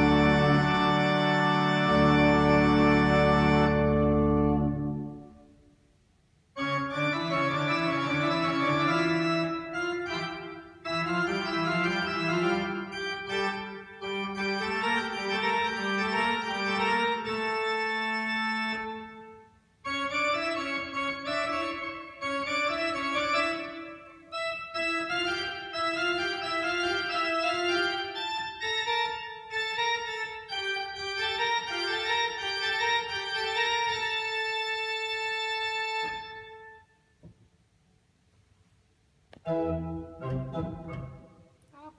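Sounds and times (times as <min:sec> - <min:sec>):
church organ chords: 0:00.0 - 0:05.6, 0:06.6 - 0:36.9, 0:39.4 - 0:41.6.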